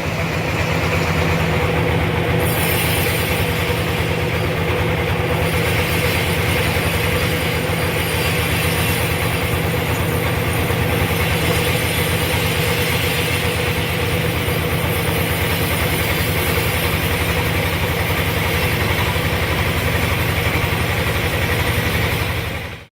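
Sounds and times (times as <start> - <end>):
sawmill engine running: 0.0 - 22.9.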